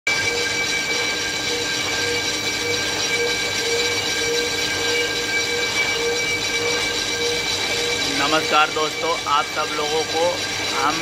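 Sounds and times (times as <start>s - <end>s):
lathe mechanical whine: 0.1s - 11.0s
metal cutting noise: 0.1s - 11.0s.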